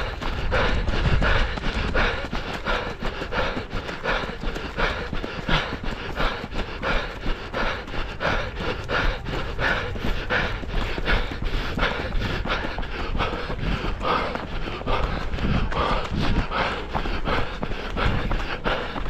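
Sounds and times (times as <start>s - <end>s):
running footsteps: 0.0s - 19.0s.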